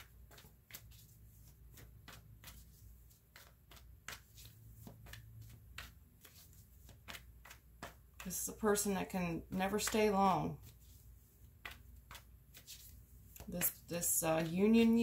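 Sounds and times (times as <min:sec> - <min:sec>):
cards being shuffled: 0:00.0 - 0:09.0, 0:09.6 - 0:15.0.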